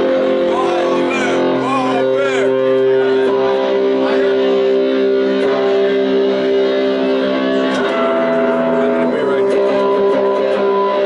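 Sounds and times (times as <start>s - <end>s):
live band playing sustained chords: 0.0s - 11.0s.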